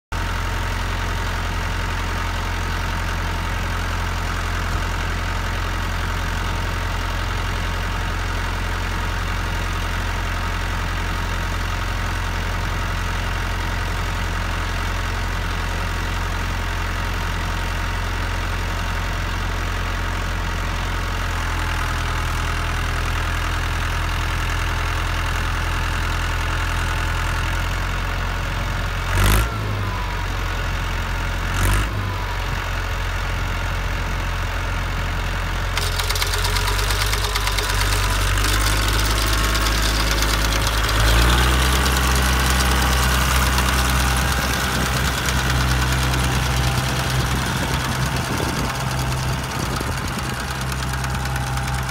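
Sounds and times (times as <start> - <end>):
tractor engine idling: 0.2 - 29.1, 32.1 - 51.9.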